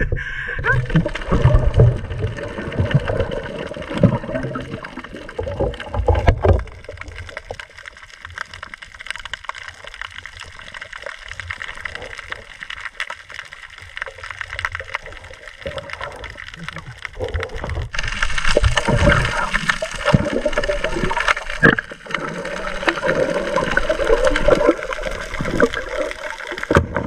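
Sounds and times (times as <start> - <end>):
underwater churning and bubbling: 0.0 - 27.0
small underwater clicks: 0.7 - 27.0.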